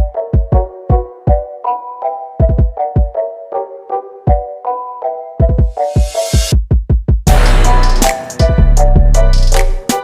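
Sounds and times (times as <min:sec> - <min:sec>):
hip hop music: 0:00.0 - 0:06.6, 0:07.3 - 0:10.0.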